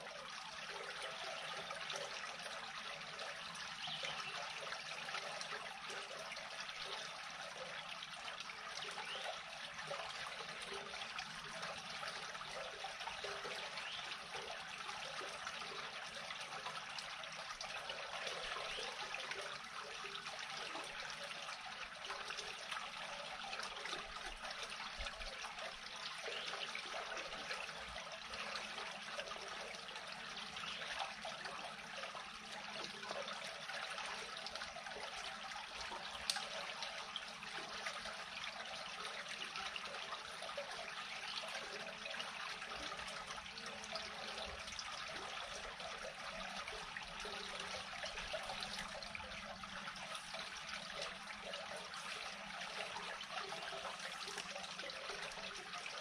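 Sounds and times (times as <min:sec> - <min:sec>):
water trickling into culvert: 0:00.0 - 0:56.0.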